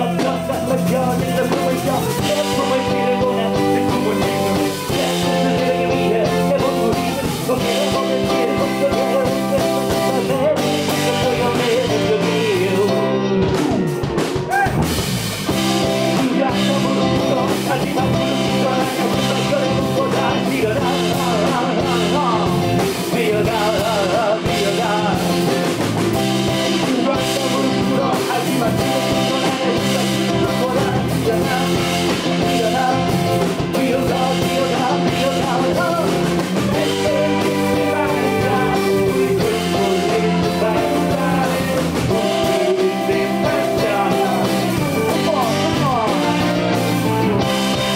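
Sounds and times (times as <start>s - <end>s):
blues rock band playing: 0.0s - 47.9s.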